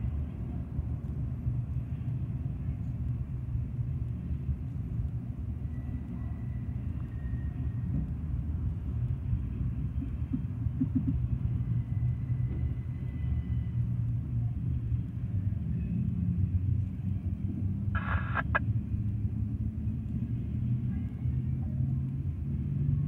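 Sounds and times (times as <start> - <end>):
train cars rumbling on rails: 0.0 - 23.0.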